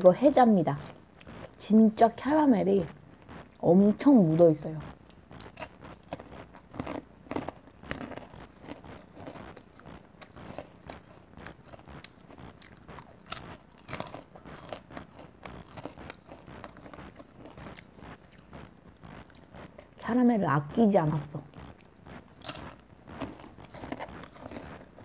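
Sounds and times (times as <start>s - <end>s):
popcorn crunching: 0.1s - 25.0s.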